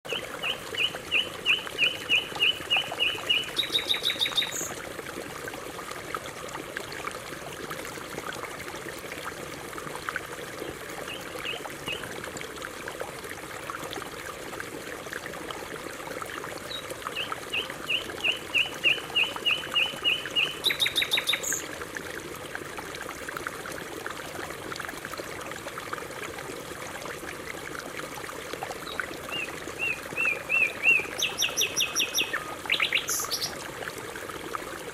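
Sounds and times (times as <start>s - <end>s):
trickle of running water: 0.1s - 34.9s.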